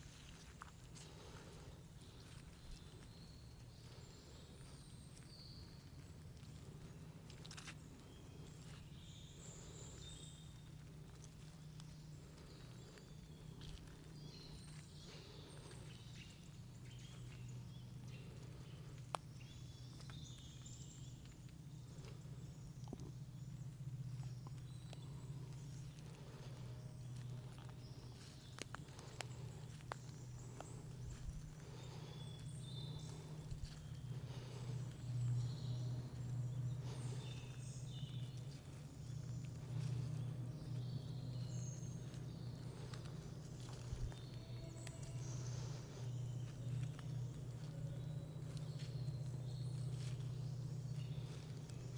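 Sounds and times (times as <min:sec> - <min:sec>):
steady low hum: 0:00.0 - 0:51.9
steady low rumble: 0:00.0 - 0:51.9
birds chirping and trilling: 0:00.9 - 0:51.9.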